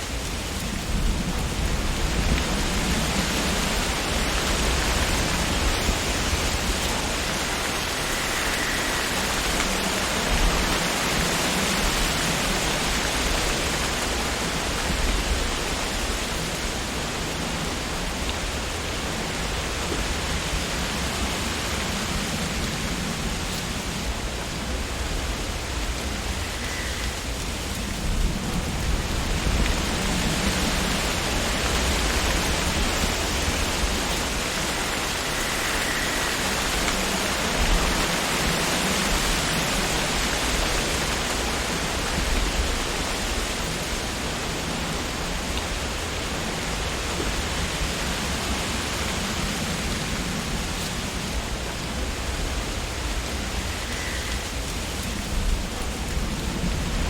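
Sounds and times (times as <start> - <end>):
wind rustling tree leaves: 0.0 - 57.0.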